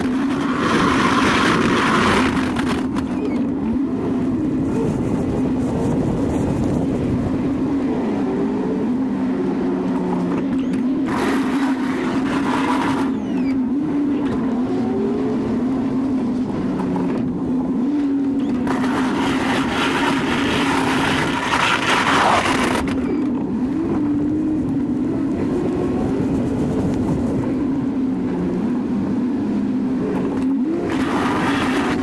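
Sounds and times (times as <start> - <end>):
plow scraping snow: 0.0 - 32.0.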